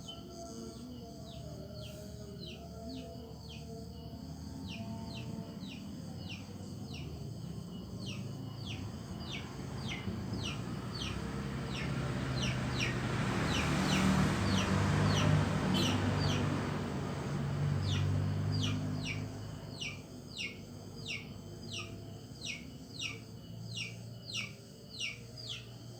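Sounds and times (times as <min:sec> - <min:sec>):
bird chirping: 0:04.6 - 0:25.9.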